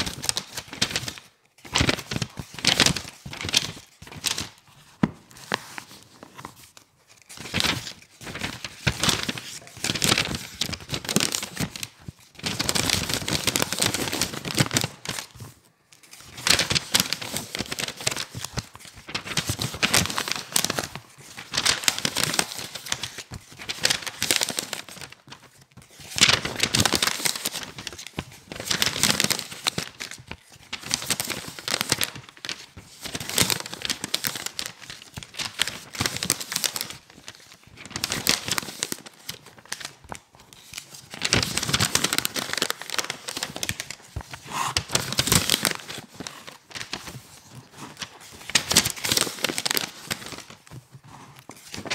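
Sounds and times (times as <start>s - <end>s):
book pages flipping: 0.0s - 51.9s.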